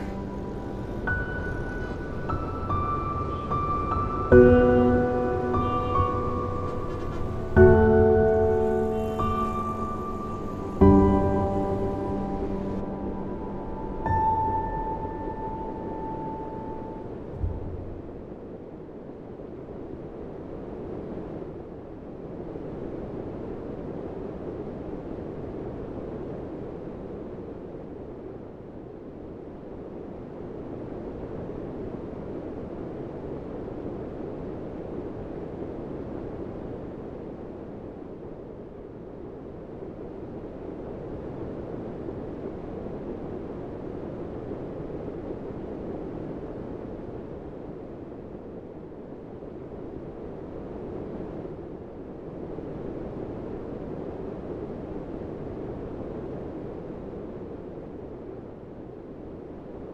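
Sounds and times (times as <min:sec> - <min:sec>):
wind rushing: 0:00.0 - 0:59.9.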